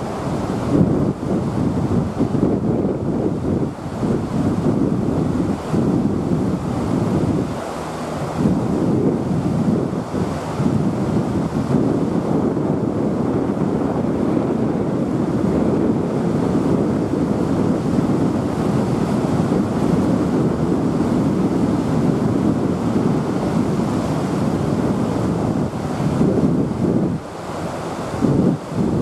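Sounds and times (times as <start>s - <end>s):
river water rushing: 0.0s - 29.0s
wind: 0.0s - 29.0s.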